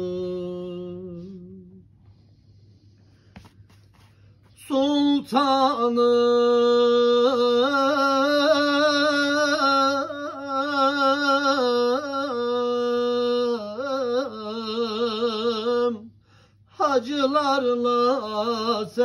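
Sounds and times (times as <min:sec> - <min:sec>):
man singing unaccompanied: 0:00.0 - 0:01.8, 0:04.6 - 0:16.1, 0:16.7 - 0:19.0.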